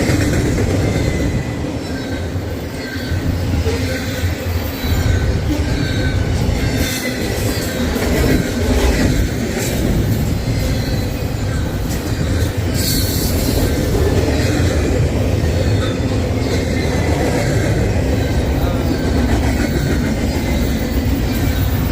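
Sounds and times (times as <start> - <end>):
train rumbling on tracks: 0.0 - 21.9
wheel squeal: 0.8 - 21.9.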